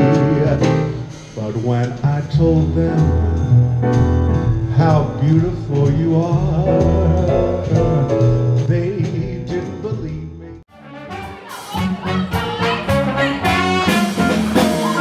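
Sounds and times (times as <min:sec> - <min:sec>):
drum kit: 0:00.0 - 0:15.0
piano: 0:00.0 - 0:15.0
bending lead melody: 0:02.4 - 0:15.0.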